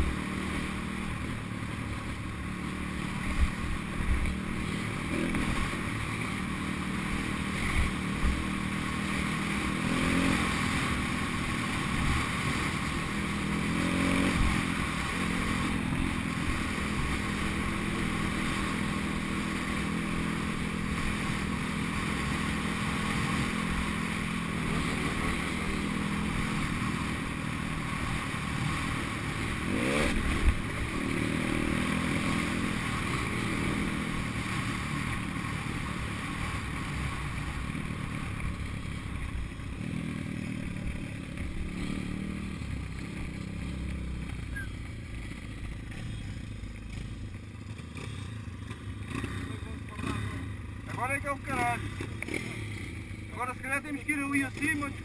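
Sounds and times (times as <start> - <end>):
pit bike engine running: 0.0 - 55.0.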